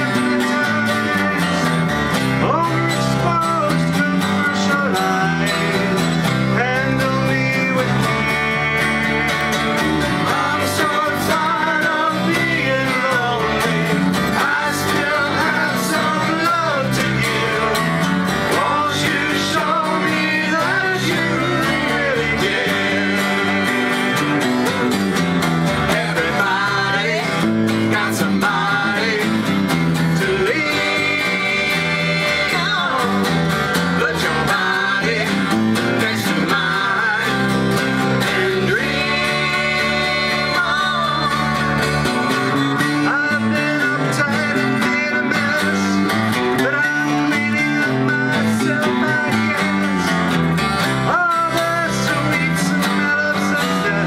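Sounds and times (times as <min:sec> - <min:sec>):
man and woman singing together: 0:00.0 - 0:24.6, 0:25.8 - 0:50.0, 0:51.1 - 0:54.0
strummed acoustic guitar: 0:00.0 - 0:54.0.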